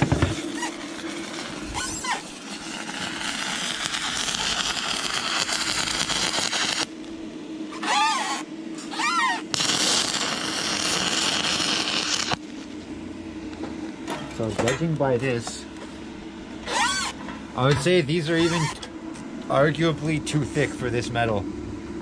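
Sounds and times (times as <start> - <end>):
welding arc crackling hiss: 0.0 - 12.8, 13.4 - 21.4.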